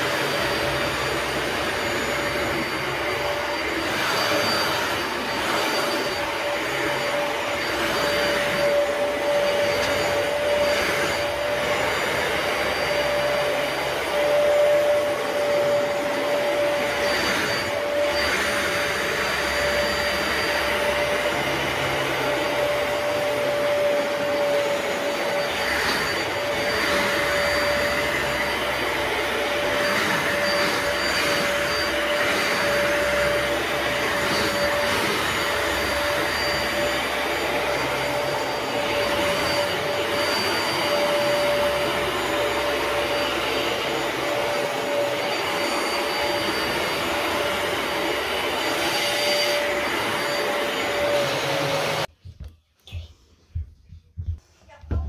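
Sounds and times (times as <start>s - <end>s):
carpet cleaner motor whine: 0.0s - 52.1s.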